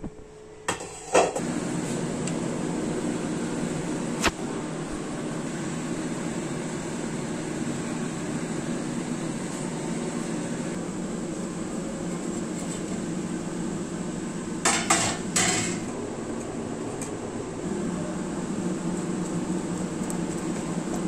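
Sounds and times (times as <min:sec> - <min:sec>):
steady fan-like hum: 0:00.0 - 0:21.0.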